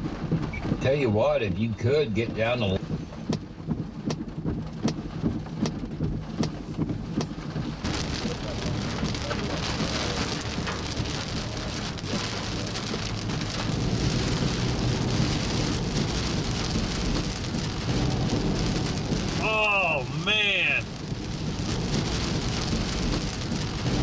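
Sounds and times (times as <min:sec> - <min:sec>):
heavy rain on a car: 0:00.0 - 0:24.0
low vehicle hum: 0:00.0 - 0:24.0.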